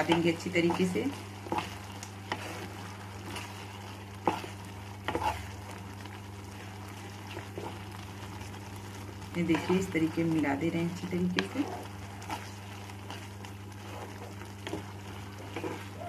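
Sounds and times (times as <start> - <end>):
low steady hum: 0.0 - 16.0
spatula stirring noodles: 0.0 - 16.0.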